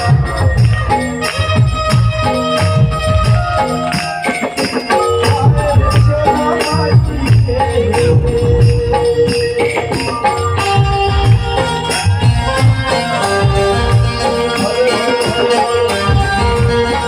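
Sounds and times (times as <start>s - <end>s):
jingling hand percussion: 0.0s - 17.0s
steady drum beat: 0.0s - 17.0s.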